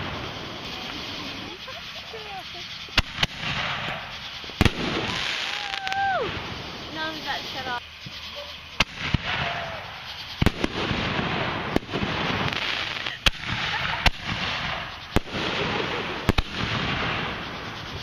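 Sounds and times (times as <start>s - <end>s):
fireworks bangs: 0.0s - 18.0s
hissing crackle: 0.0s - 18.0s.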